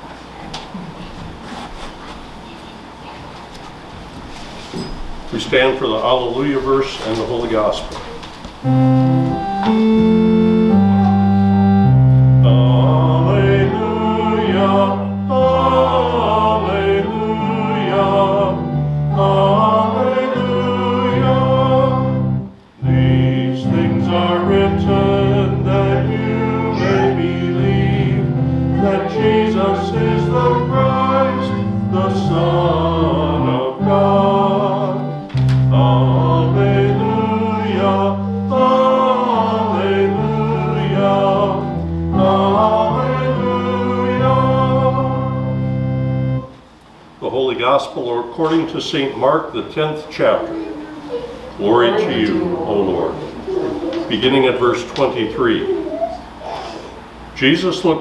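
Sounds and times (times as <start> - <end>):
organ chords: 5.1 - 58.0
voices singing: 5.3 - 46.5, 47.2 - 58.0.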